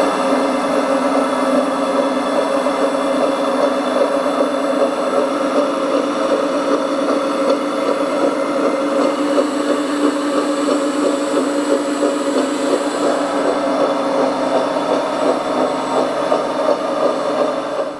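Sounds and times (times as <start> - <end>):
model bulldozer motor whine: 0.0 - 17.9.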